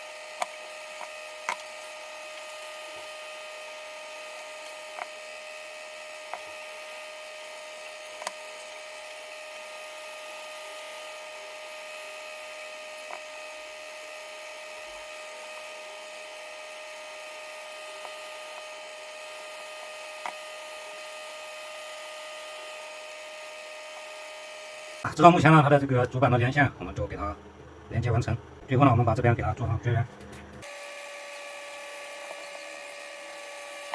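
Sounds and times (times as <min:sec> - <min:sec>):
machine whine with hiss: 0:00.0 - 0:29.4, 0:30.5 - 0:33.9.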